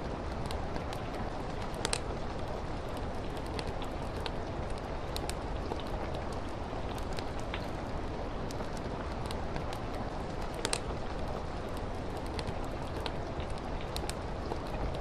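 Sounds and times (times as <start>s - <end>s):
rain on a window: 0.0s - 15.0s
fireplace crackling: 0.1s - 15.0s.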